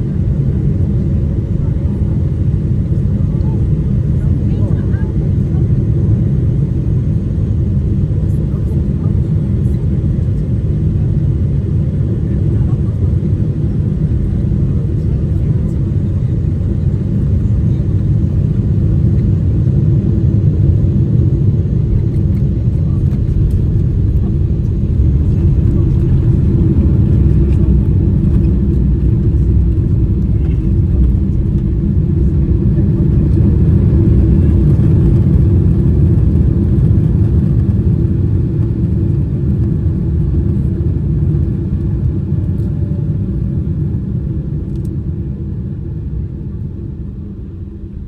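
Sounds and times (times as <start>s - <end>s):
airplane landing rumble: 0.0s - 48.0s.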